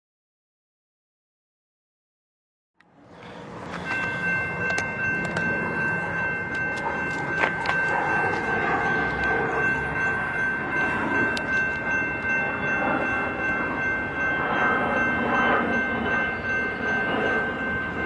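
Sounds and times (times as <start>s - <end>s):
freight train rumbling and rattling: 3.0s - 18.0s.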